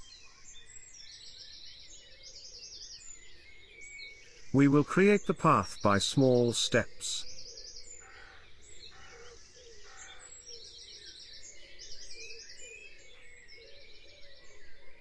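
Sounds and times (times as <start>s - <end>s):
birds singing and chirping: 0.0s - 15.0s.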